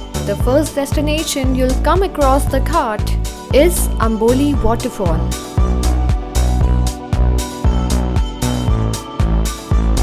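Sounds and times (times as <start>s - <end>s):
electronic music with heavy bass beat: 0.0s - 10.0s.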